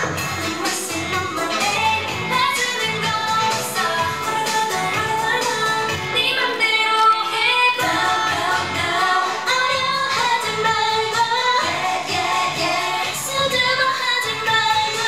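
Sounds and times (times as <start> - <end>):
female vocals singing: 0.0 - 15.0
pop backing track with beat: 0.0 - 15.0.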